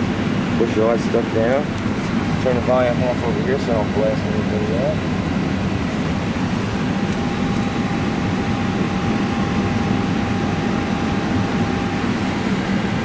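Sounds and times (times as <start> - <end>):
cockpit hum and air noise: 0.0 - 13.0.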